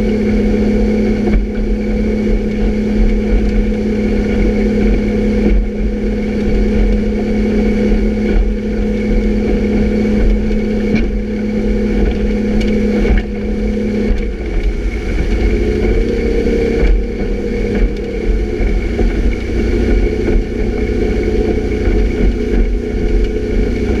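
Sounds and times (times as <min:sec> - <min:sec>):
churning wake rushing: 0:00.0 - 0:24.0
motorboat engine running: 0:00.0 - 0:24.0.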